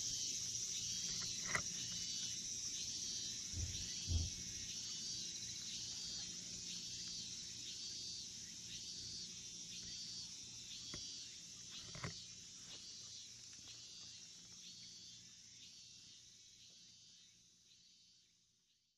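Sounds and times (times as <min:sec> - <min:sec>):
insect chorus buzzing: 0:00.0 - 0:18.6.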